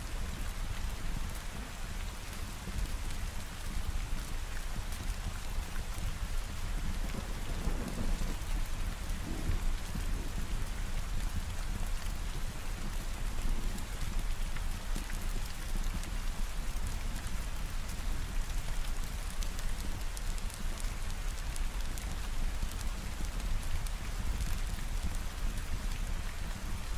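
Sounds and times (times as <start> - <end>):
heavy rain falling: 0.1 - 26.9.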